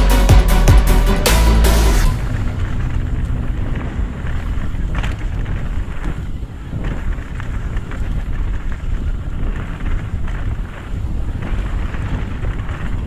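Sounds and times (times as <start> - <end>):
wind noise on microphone: 0.0 - 13.0
bike rattling over rocky trail: 2.1 - 13.0.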